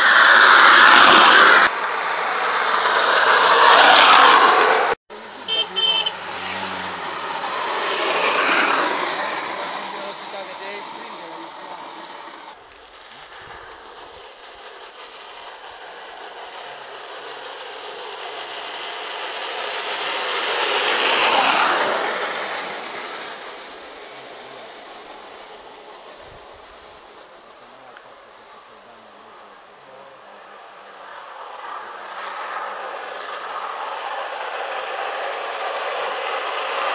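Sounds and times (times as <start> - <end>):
cart wheels rolling on asphalt: 0.0 - 36.9.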